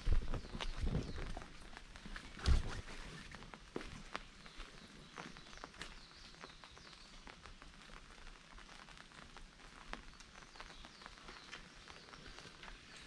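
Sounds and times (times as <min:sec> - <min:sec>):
rain pattering on umbrella: 0:00.0 - 0:13.0.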